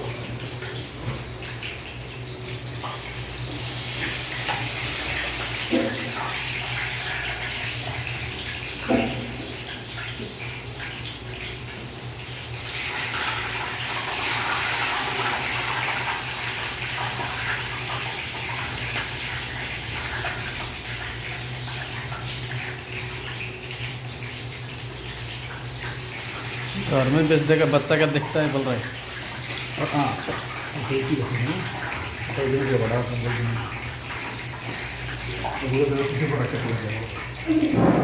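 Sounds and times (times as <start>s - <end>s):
water running: 0.0s - 38.0s.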